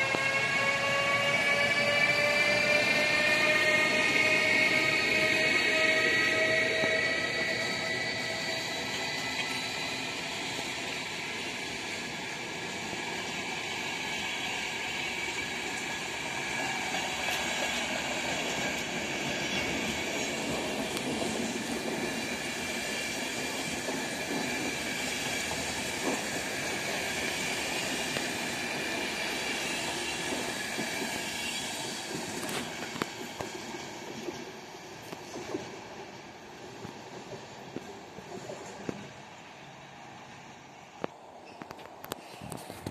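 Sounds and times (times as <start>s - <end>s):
train wheels rumbling and clattering: 0.0s - 40.4s
train wheels squealing: 0.0s - 42.9s.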